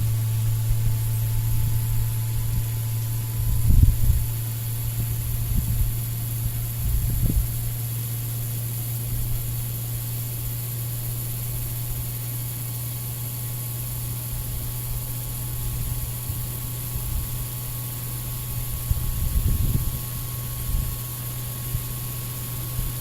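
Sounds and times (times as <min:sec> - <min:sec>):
electric fuel pump humming: 0:00.0 - 0:23.0.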